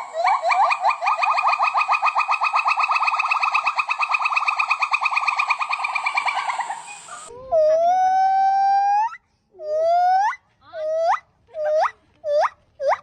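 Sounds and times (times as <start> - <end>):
primate call: 0.0 - 13.0.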